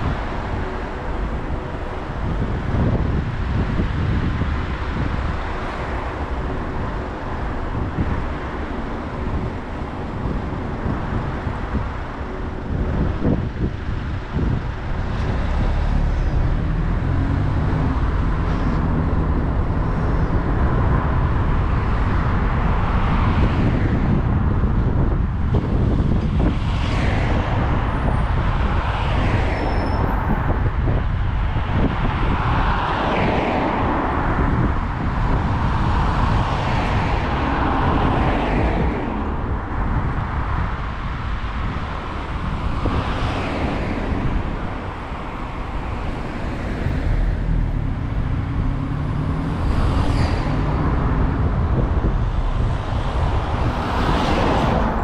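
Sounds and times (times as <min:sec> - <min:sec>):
road traffic: 0:00.0 - 0:55.0
wind rumbling on microphone: 0:00.0 - 0:55.0.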